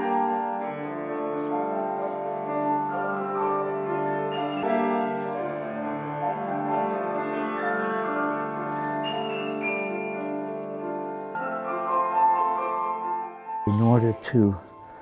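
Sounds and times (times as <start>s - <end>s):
grand piano chords: 0.0s - 15.0s.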